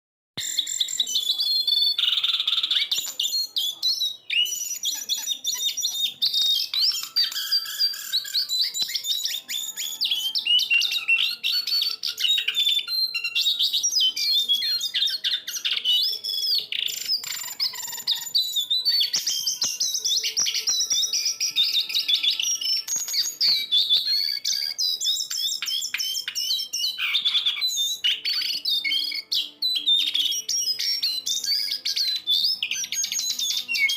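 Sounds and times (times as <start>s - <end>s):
songbird chirping and trilling: 0.4s - 33.9s.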